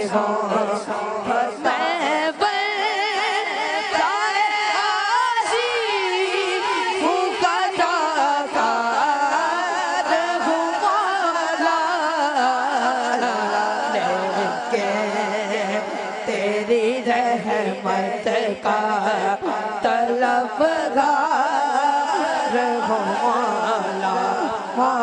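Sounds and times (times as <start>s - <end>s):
voices singing wordless melody: 0.0s - 25.0s.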